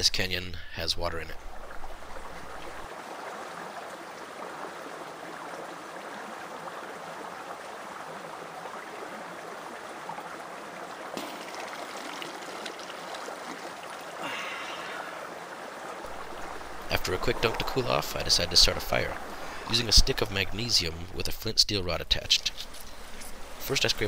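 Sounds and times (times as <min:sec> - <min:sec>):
water splashing and dripping: 0:01.4 - 0:21.2
stream flowing over rocks: 0:01.4 - 0:21.3, 0:22.2 - 0:24.0.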